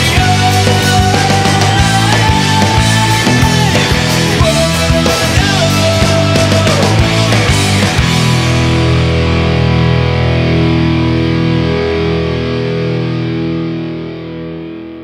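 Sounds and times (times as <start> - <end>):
distorted electric guitar chord: 0.0 - 15.0.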